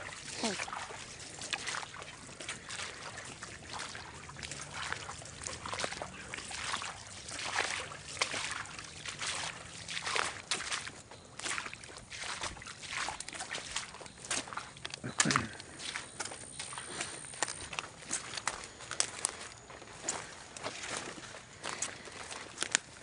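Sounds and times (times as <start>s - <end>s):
footsteps splashing through water: 0.0s - 23.0s.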